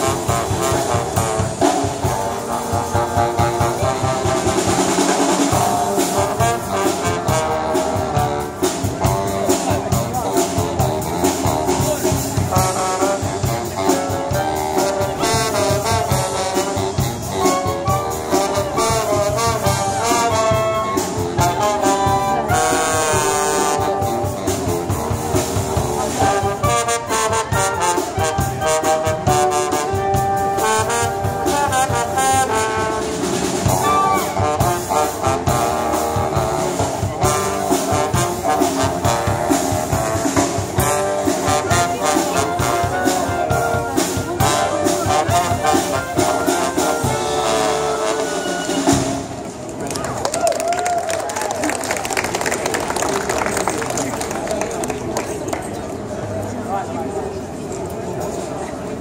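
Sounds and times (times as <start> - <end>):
steady drum beat: 0.0 - 49.4
horns playing melody: 0.0 - 49.6.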